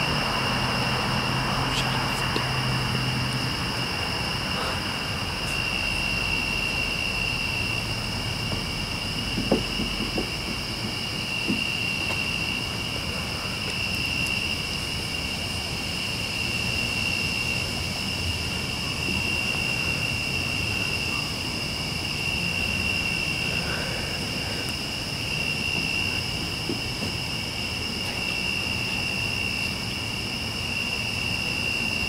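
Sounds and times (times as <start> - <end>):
night insects singing: 0.0 - 32.0.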